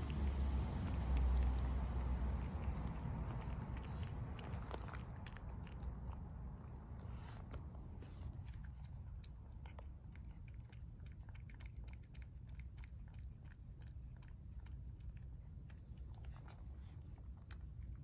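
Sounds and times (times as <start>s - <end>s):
cat chewing and crunching food: 0.0s - 18.0s
steady low rumble: 0.0s - 18.0s.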